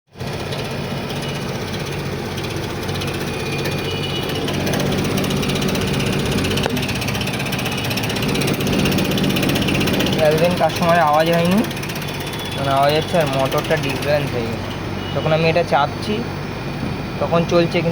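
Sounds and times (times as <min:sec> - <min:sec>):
fast rattling chatter: 0:00.2 - 0:14.8
air conditioner motor humming: 0:00.2 - 0:17.9.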